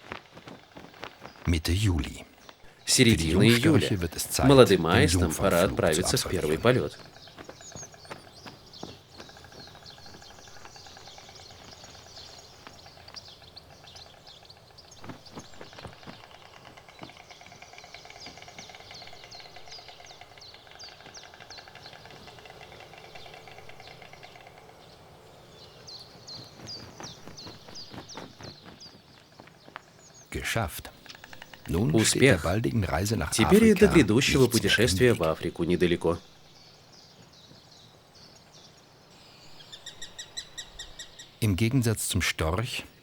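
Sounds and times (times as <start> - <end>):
faint rasping outdoor ambience: 0.0 - 43.0
small birds chirping: 0.0 - 43.0.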